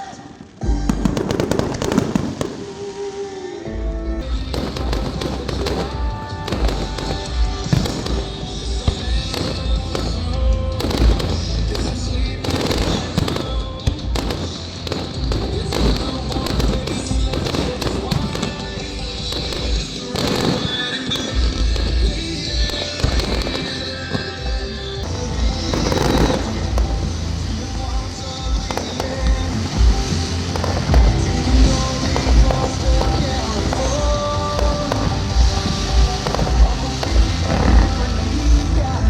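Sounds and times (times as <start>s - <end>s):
fireworks cracking and popping: 0.0s - 3.6s, 4.2s - 39.0s
music with heavy bass: 0.6s - 2.6s, 3.7s - 39.0s.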